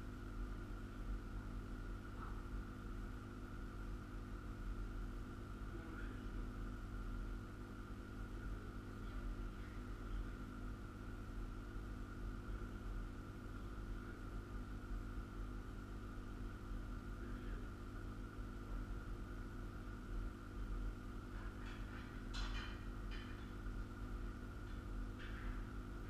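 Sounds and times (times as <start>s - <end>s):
thin steady whine: 0.0s - 26.0s.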